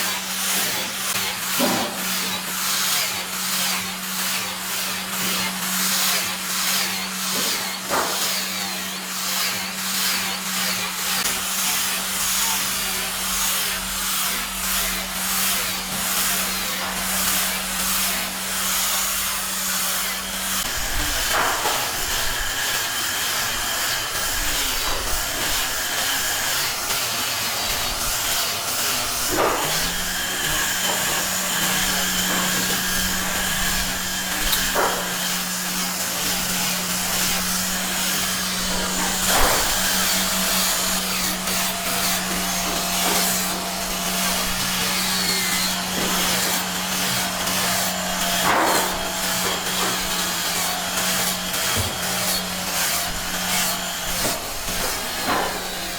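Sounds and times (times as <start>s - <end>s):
electric motor humming: 0.1s - 55.9s.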